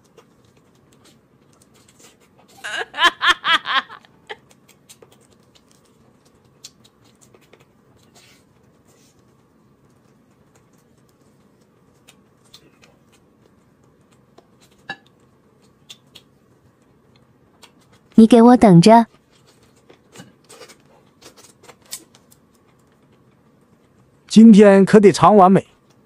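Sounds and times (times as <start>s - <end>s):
man chewing with smacking: 0.0s - 2.6s, 4.1s - 18.2s, 19.1s - 24.3s.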